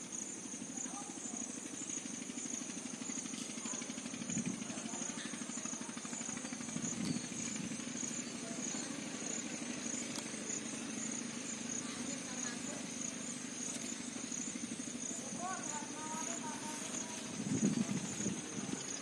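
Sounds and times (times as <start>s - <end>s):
idling motor hum: 0.0s - 19.0s
pulsing insect chirp: 0.0s - 19.0s.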